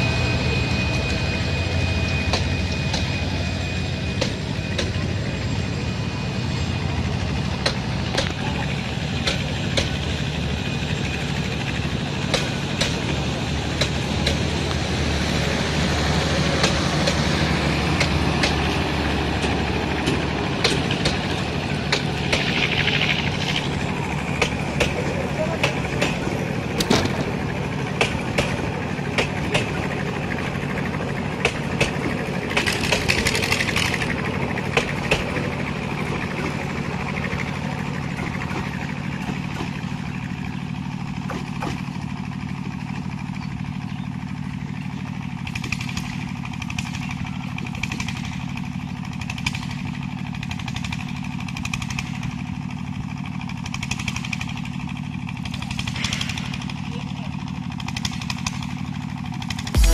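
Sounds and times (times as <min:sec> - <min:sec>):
train rumble: 0:00.0 - 0:59.9
wheels clacking over rail joints: 0:07.5 - 0:15.0, 0:16.5 - 0:59.7.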